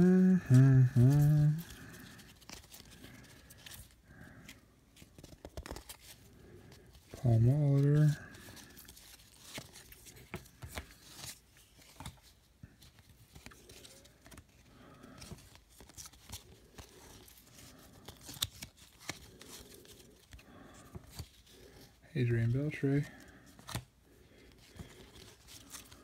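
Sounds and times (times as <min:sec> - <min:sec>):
cards scraping together: 0:00.3 - 0:12.4, 0:13.1 - 0:21.9.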